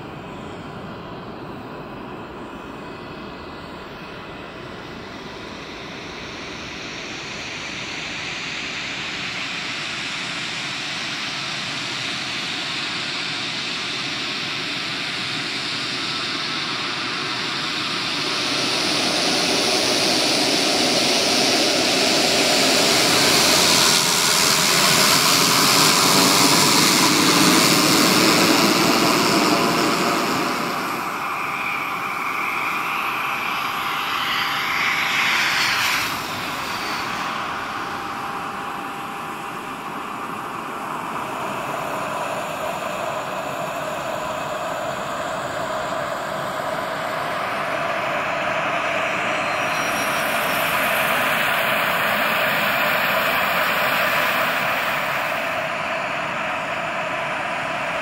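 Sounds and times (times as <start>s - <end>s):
jet turbine whine: 0.0s - 58.0s
turboprop plane running: 0.0s - 58.0s.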